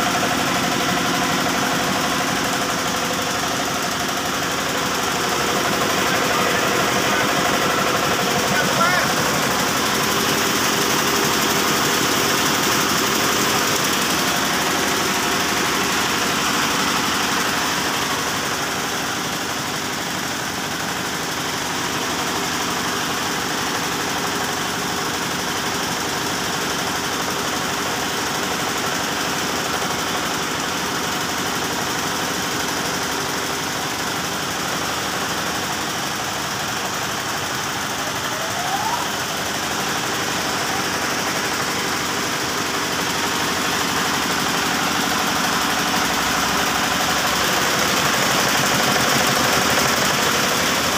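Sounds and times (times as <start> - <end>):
air compressor pump: 0.0 - 50.9
diesel engine running: 0.0 - 50.9.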